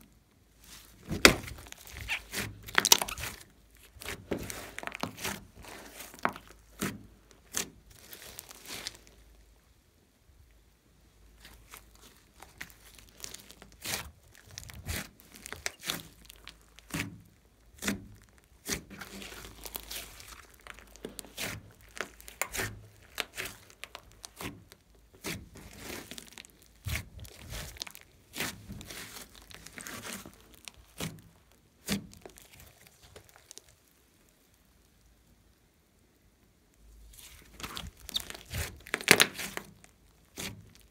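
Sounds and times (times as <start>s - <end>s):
slime crackling and popping: 0.7s - 9.3s, 11.4s - 35.5s, 36.7s - 40.9s.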